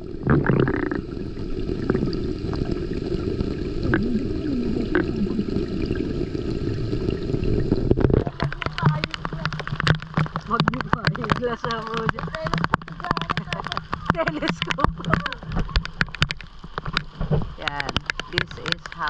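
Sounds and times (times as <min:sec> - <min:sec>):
muffled underwater rumble: 0:00.0 - 0:19.0
rain pattering on water: 0:00.0 - 0:19.0.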